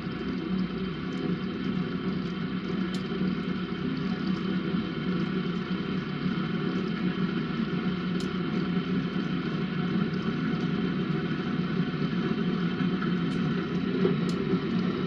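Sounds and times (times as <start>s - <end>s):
coffee brewer humming: 0.0s - 15.0s.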